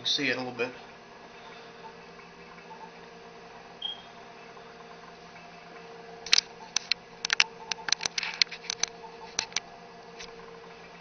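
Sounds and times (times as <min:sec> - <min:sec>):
steady hum: 0:00.0 - 0:11.0
hard drive seeking clicks: 0:00.9 - 0:11.0.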